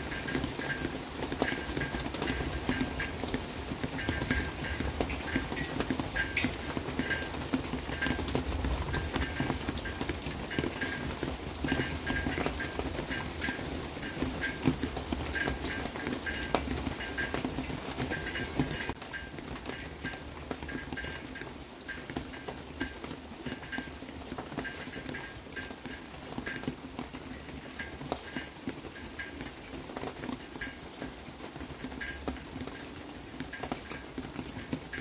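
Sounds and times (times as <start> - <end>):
rain dripping and pattering: 0.0 - 35.0.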